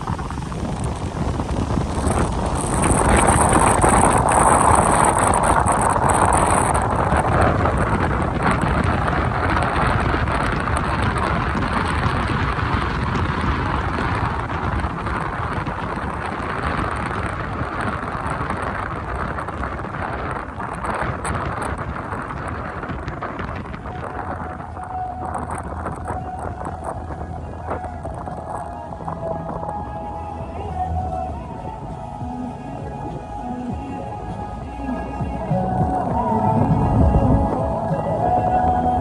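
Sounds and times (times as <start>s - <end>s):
traffic on wet roads: 0.0s - 39.0s
wind on microphone: 0.0s - 39.0s.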